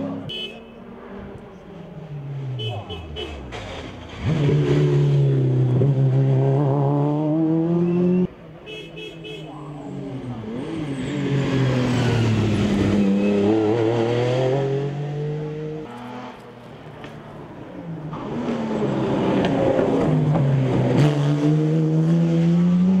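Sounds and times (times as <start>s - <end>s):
rally car engines at full throttle: 0.0s - 8.6s, 9.5s - 23.0s.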